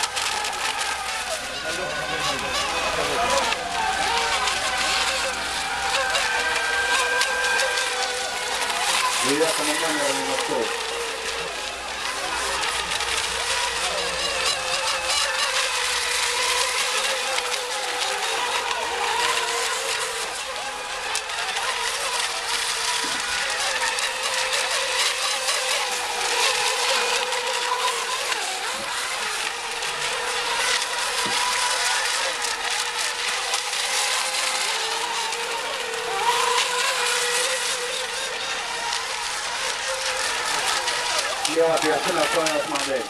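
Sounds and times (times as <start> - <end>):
rc boat motors whining: 0.0 - 43.0.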